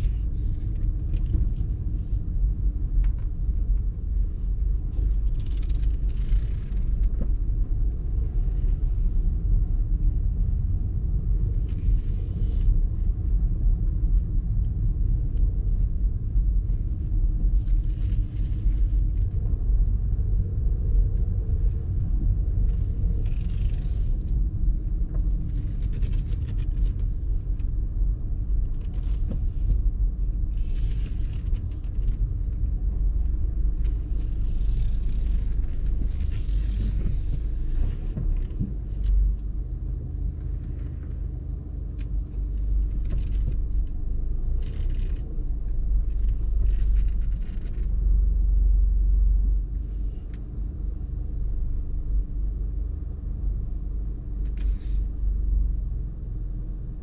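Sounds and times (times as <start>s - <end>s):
faint hum: 0.0s - 57.0s
low road rumble: 0.0s - 57.0s.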